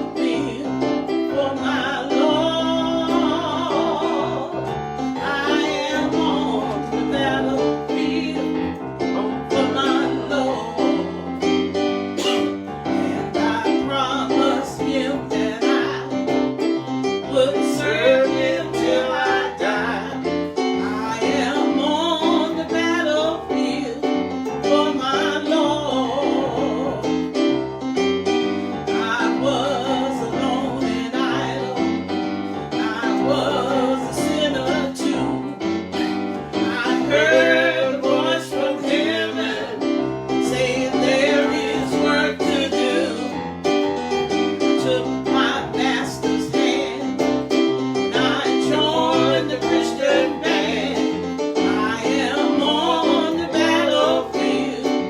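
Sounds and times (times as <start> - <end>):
gospel singing: 0.0 - 55.0
piano accompaniment: 0.0 - 55.0.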